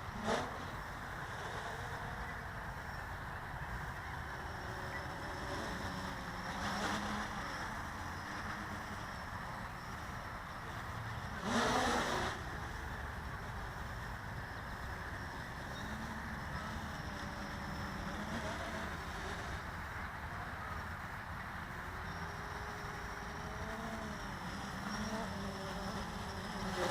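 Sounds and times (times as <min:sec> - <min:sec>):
quadcopter motors humming: 0:00.0 - 0:26.9.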